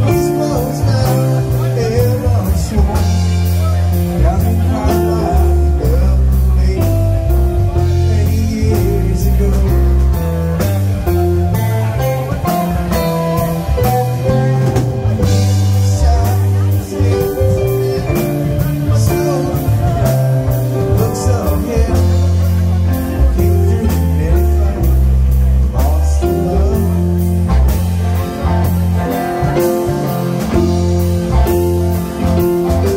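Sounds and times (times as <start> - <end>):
bass guitar: 0.0 - 32.9
electric guitar: 0.0 - 32.9
keyboard: 0.0 - 32.9.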